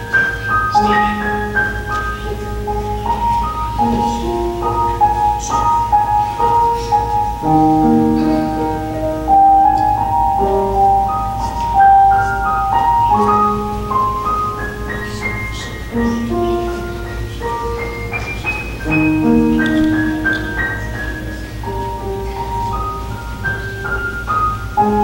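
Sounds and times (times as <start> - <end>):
slow piano music: 0.0 - 25.0
steady low hum: 0.0 - 25.0.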